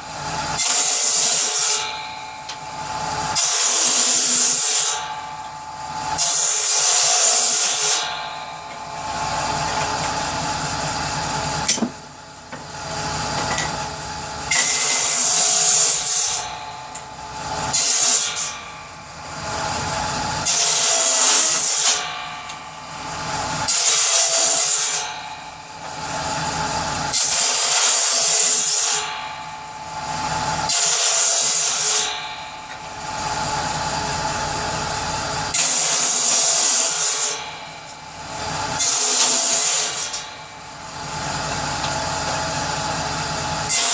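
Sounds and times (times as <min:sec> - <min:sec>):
power saw cutting wood: 0:00.0 - 0:43.9
saw running: 0:00.0 - 0:43.9.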